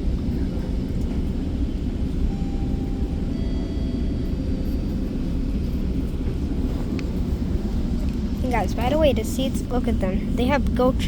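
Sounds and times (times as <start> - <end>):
low rumble inside train coach: 0.0 - 11.0.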